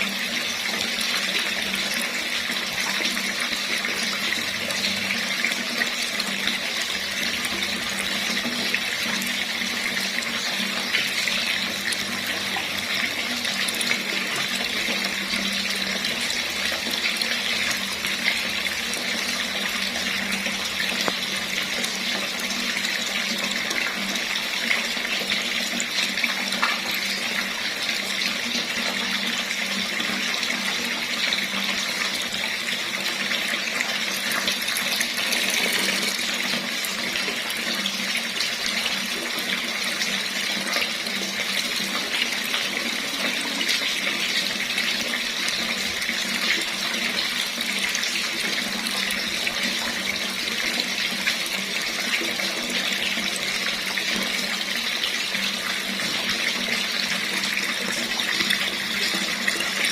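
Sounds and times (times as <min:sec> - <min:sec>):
water running from a tap: 0:00.0 - 0:59.9.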